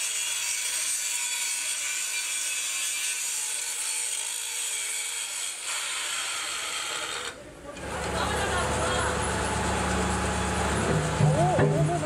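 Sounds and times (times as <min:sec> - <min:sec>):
angle grinder grinding steel: 0:00.0 - 0:11.3.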